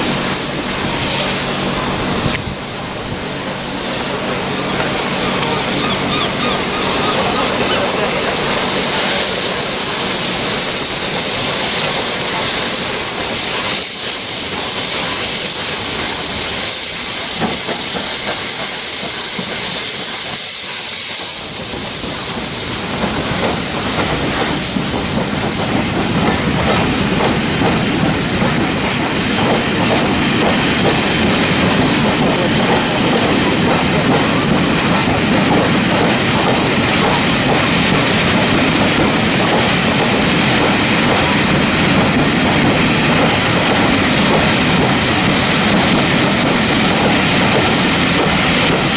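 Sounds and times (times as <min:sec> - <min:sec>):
steam hissing: 0:00.0 - 0:48.9
train rumbling: 0:00.0 - 0:48.9.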